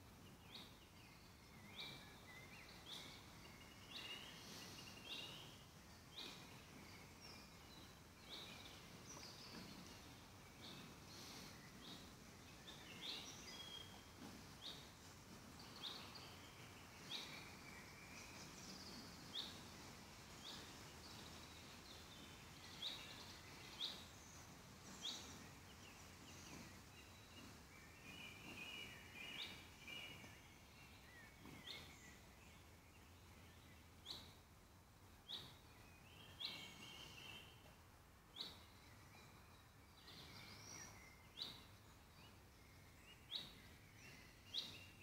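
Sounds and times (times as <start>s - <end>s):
background hiss: 0.0s - 45.0s.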